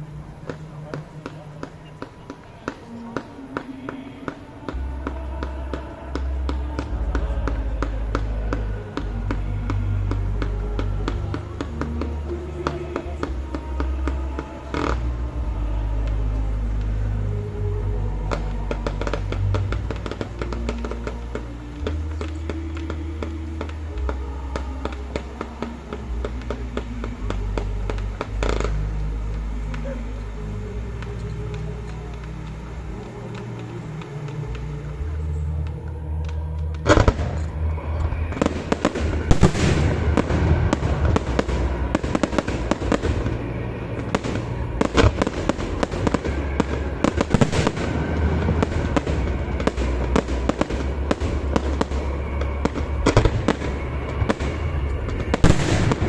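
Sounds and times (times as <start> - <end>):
fireworks bangs and crackling: 0.0 - 56.0
music: 0.0 - 56.0.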